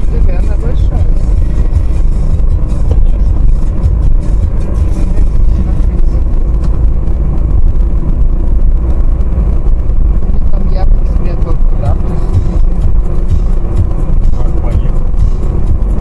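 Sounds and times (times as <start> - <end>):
car driving at highway speed: 0.0 - 16.0.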